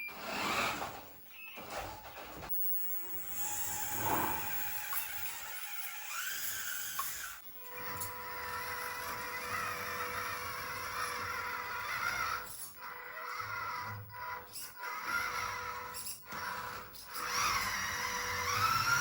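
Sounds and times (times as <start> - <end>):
remote-control car motor whirring: 0.1 - 1.0, 3.2 - 19.0.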